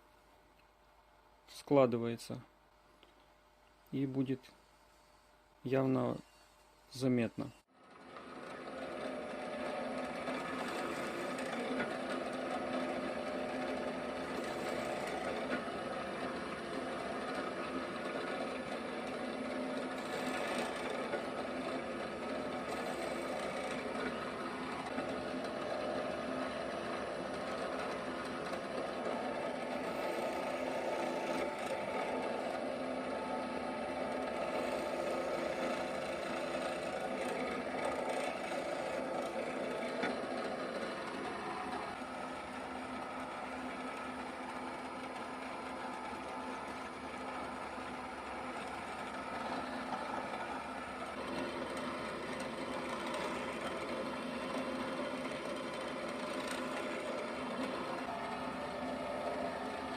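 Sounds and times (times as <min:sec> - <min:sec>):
drill press motor humming: 0:07.7 - 0:59.9.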